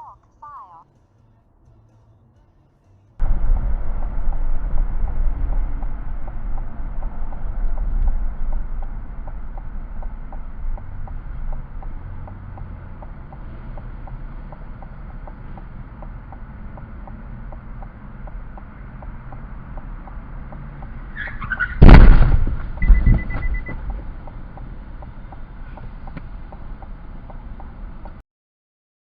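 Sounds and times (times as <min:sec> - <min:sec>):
road and wind noise: 0:00.2 - 0:28.2
faint rapid ticking: 0:03.2 - 0:21.2, 0:22.8 - 0:28.2.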